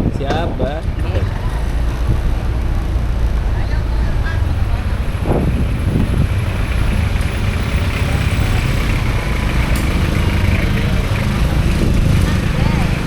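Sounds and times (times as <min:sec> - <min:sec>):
motor vehicles rumbling: 0:00.0 - 0:13.0.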